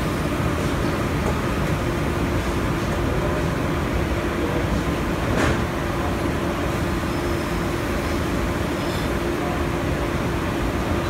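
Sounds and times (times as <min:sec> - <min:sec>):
kitchen fans droning: 0:00.0 - 0:11.0.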